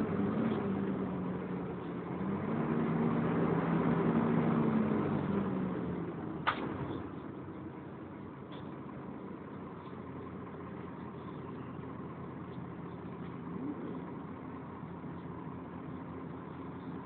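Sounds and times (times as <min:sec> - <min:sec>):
bus engine and cooling fan hum: 0:00.0 - 0:17.0.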